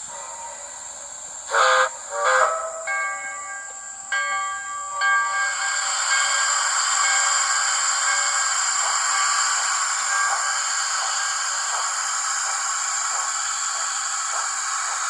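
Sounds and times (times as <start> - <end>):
steam hissing: 0.0 - 15.0
steam whistle chord: 0.0 - 15.0.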